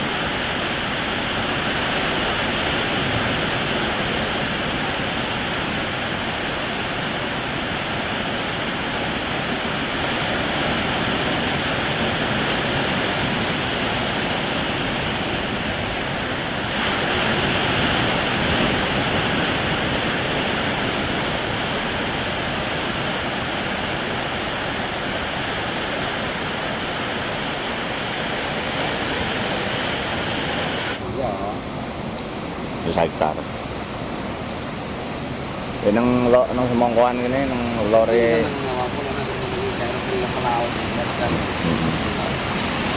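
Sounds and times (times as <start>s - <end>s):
waves breaking: 0.0s - 42.9s.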